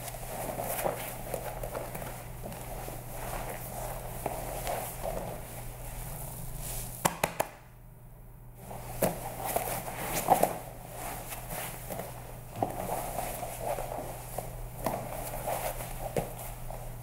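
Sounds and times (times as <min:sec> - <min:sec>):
fabric rustling and shuffling: 0:00.0 - 0:07.1, 0:08.6 - 0:17.0
steady low hum: 0:00.0 - 0:17.0.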